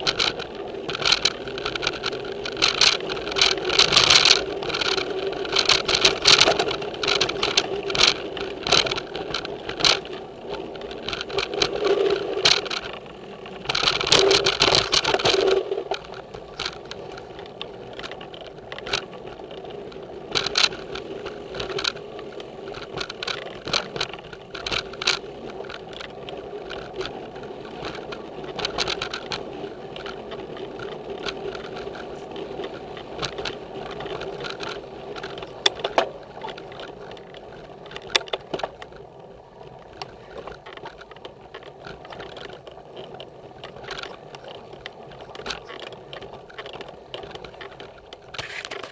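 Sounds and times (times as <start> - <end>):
bike frame rattling: 0.0 - 48.9
tyres rolling on dirt: 0.0 - 48.9.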